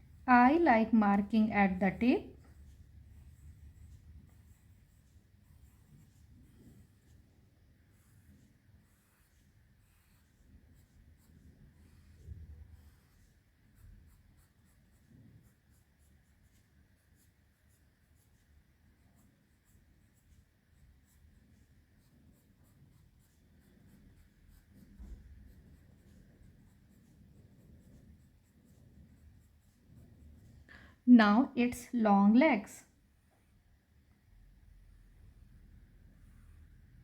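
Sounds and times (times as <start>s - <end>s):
drawing strokes scratching on paper: 0.0s - 30.7s, 35.3s - 37.0s.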